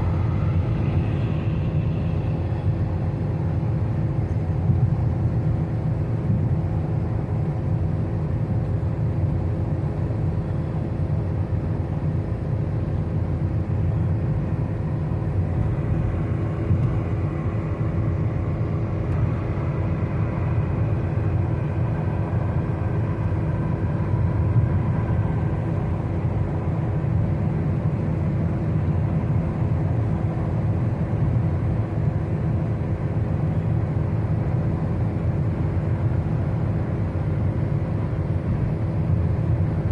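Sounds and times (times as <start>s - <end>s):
tyres and engine rumble: 0.0s - 39.9s.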